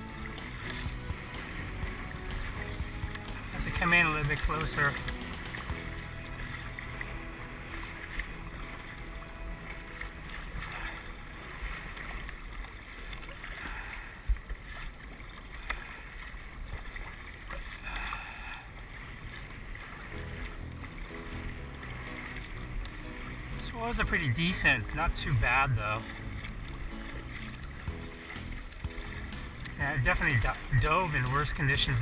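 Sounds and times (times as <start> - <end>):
water splashing around a kayak: 0.0 - 32.0.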